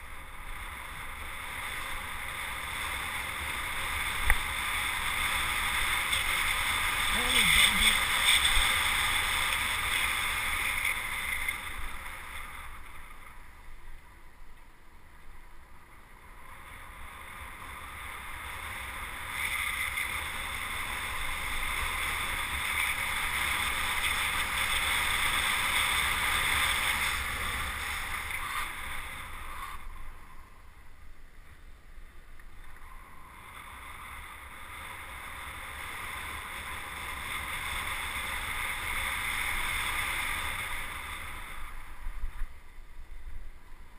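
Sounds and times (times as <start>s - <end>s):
tyre noise on asphalt: 0.0s - 43.9s.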